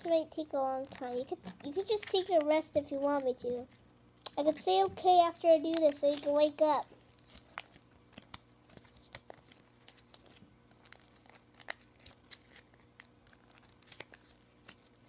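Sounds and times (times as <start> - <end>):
paper crinkling and rustling: 0.8 - 3.8, 4.4 - 15.0.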